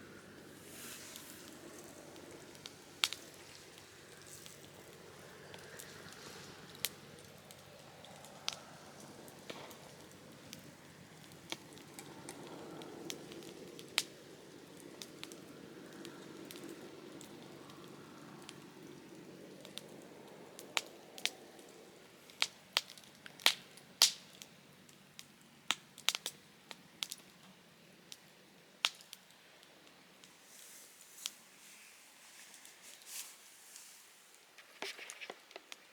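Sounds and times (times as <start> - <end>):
low rush of fire: 0.0 - 29.2
campfire crackling and popping: 0.0 - 31.5, 34.3 - 35.9.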